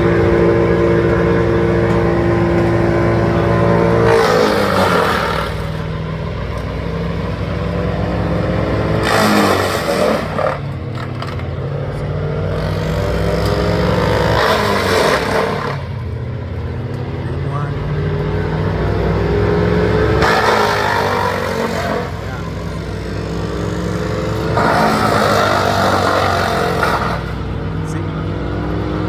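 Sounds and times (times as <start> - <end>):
large engine running: 0.0 - 29.0
noisy rush: 0.0 - 29.0.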